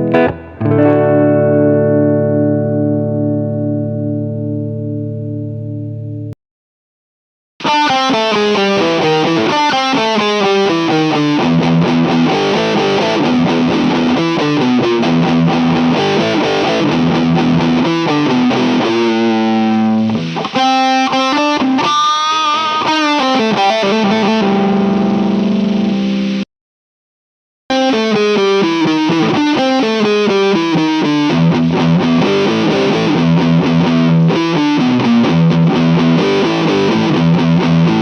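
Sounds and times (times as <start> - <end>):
distorted electric guitar: 0.0 - 6.4, 7.6 - 26.5, 27.7 - 38.0.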